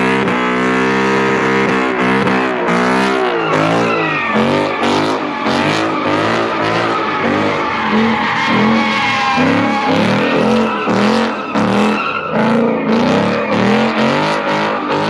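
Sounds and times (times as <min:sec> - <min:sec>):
car engine revving: 0:00.0 - 0:15.0
tyres squealing: 0:01.2 - 0:15.0.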